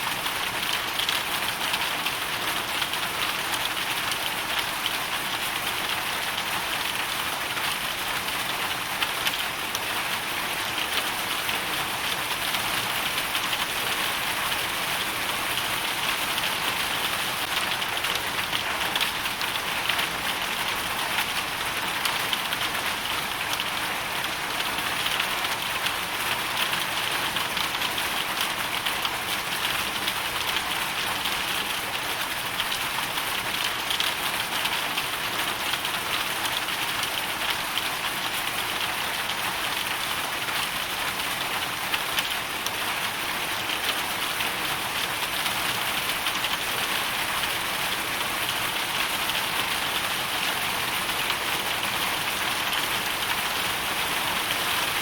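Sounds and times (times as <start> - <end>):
hail and rain striking surface: 0.0 - 55.0.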